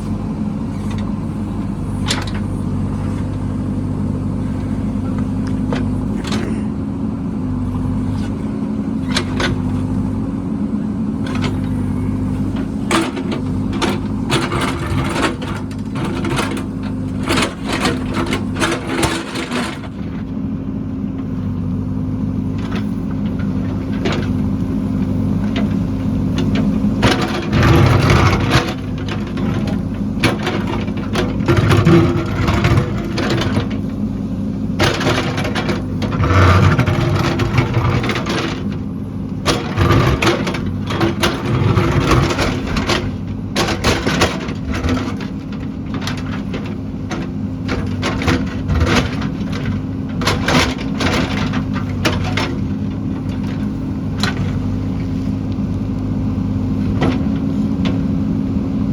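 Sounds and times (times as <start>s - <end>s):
construction machine engine running: 0.0s - 58.9s
metal clanks and knocks: 0.8s - 3.7s, 9.0s - 10.1s, 11.2s - 20.3s, 22.4s - 55.2s, 56.8s - 58.2s.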